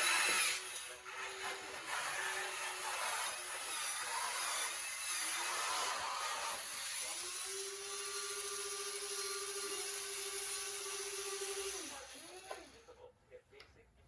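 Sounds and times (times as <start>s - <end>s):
small electric motor whining: 0.0s - 12.8s.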